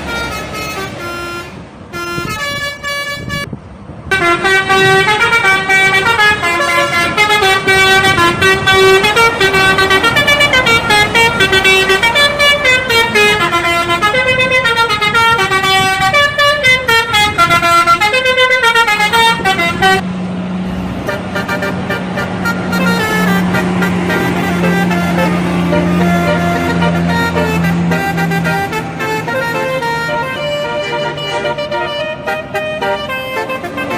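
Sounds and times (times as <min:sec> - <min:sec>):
air horns playing fast melody: 0:00.0 - 0:03.5, 0:04.1 - 0:20.0, 0:21.0 - 0:33.9.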